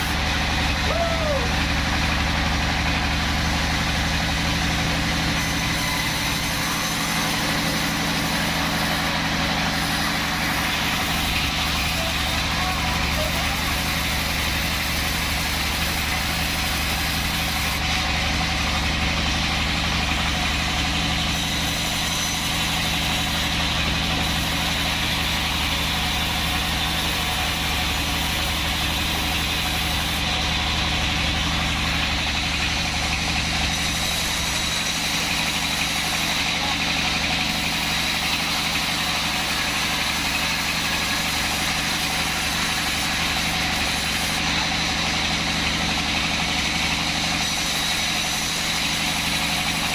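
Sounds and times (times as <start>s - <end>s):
band saw hum and whine: 0.0s - 49.9s.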